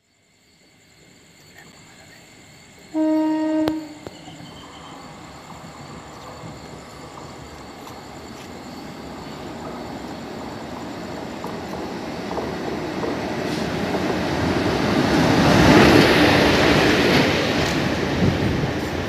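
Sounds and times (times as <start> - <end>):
train wheels rumbling on rail: 2.8 - 19.0.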